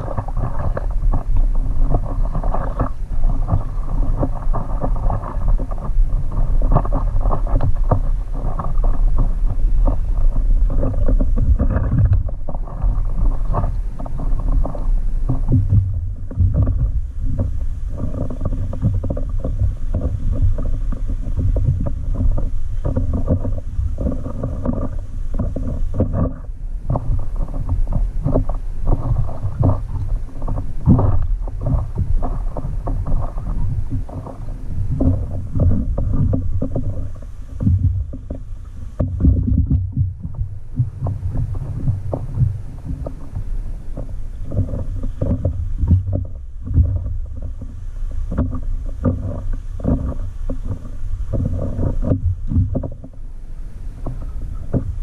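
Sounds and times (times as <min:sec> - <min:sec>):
low rumble: 0:00.0 - 0:55.0
water slapping a paddleboard: 0:00.0 - 0:55.0
wind buffeting microphone: 0:00.0 - 0:55.0.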